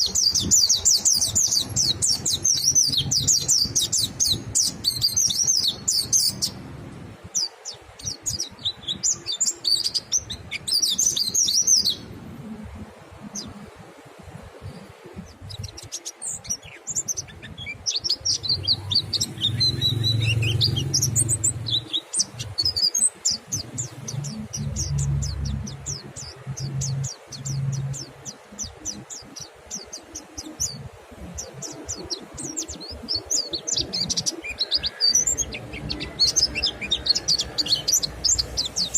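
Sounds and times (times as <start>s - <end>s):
birds twittering trills: 0.0s - 38.9s.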